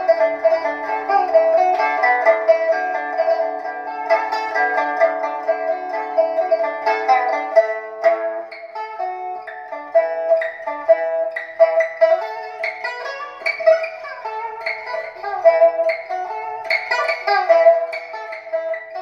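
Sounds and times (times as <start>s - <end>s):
plucked string music on speakers: 0.0s - 19.0s.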